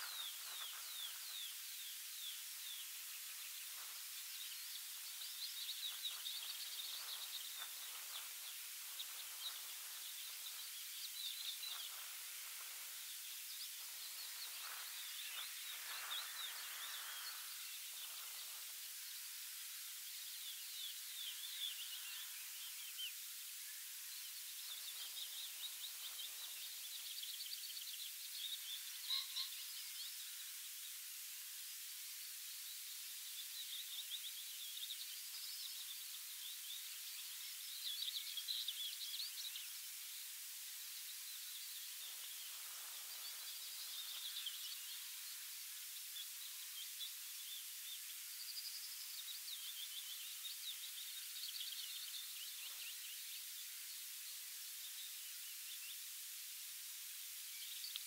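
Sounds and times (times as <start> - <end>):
songbirds chirping and trilling: 0.0 - 30.7, 32.8 - 56.2
steady soft hiss: 0.0 - 58.0.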